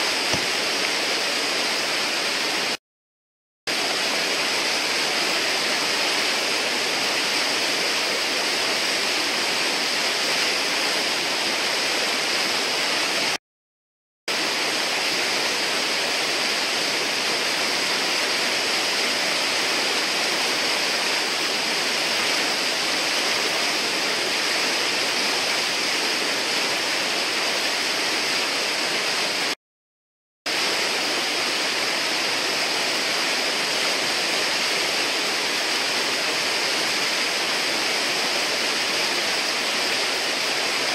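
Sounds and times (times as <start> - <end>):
water rushing over river ledge: 0.0 - 2.8, 3.7 - 13.4, 14.3 - 29.6, 30.5 - 40.9.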